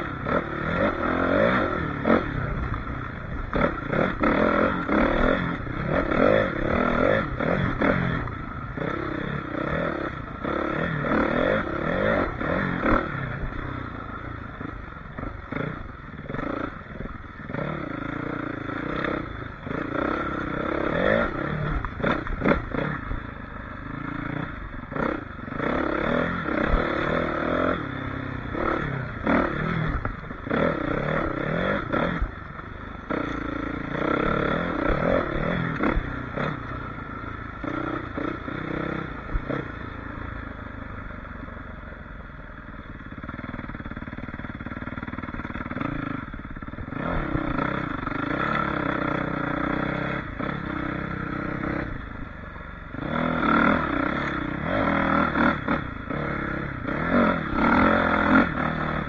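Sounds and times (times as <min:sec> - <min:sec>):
dirt bike engine revving: 0:00.0 - 0:40.4, 0:42.8 - 0:59.0.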